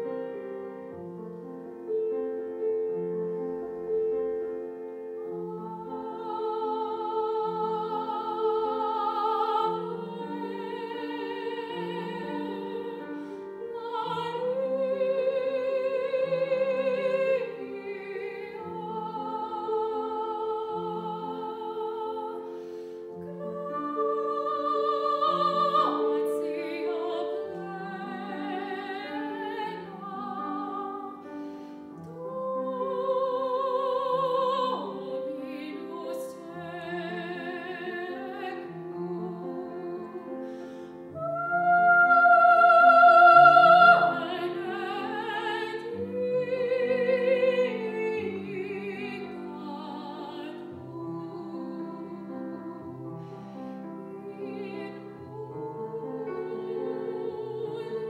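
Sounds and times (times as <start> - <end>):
grand piano: 0.0 - 58.0
woman singing operatically: 5.3 - 22.4, 23.2 - 31.3, 32.2 - 40.2, 41.1 - 53.0, 54.2 - 58.0.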